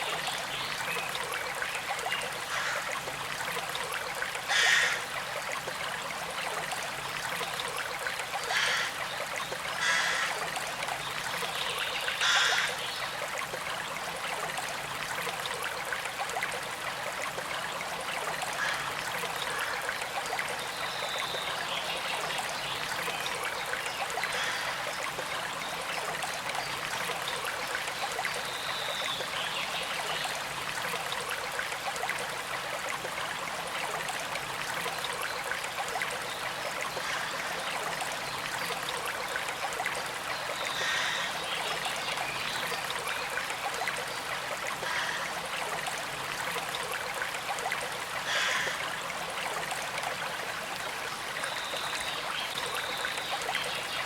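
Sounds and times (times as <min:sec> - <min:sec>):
stream flowing and trickling: 0:00.0 - 0:54.0.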